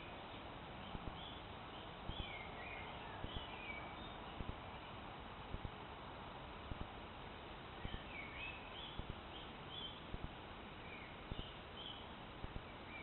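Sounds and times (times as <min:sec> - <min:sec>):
small songbirds chirping: 0:00.0 - 0:13.0
steady outdoor hiss: 0:00.0 - 0:13.0.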